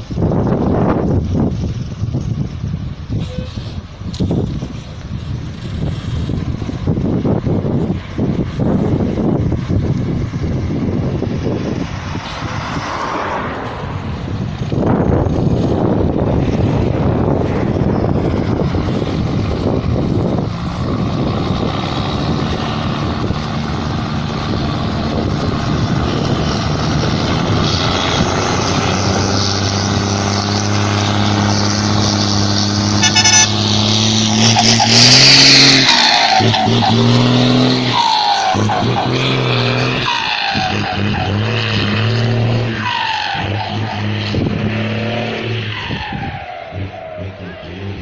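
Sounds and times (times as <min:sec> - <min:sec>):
diesel truck engine rumbling: 0:00.0 - 0:48.0.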